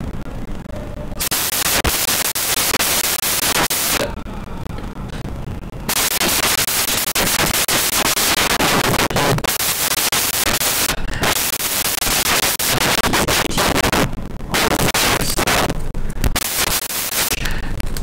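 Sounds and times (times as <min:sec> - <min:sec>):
fire crackling and hissing: 0:00.0 - 0:04.7, 0:05.5 - 0:18.0.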